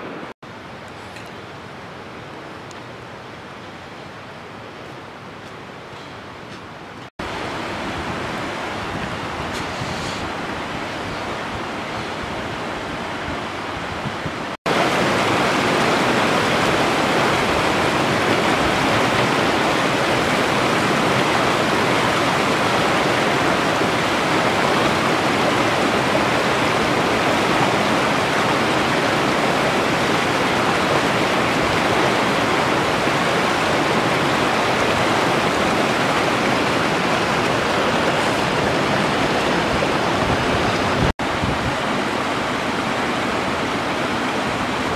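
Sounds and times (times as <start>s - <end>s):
river rushing over stones: 0.0s - 44.9s.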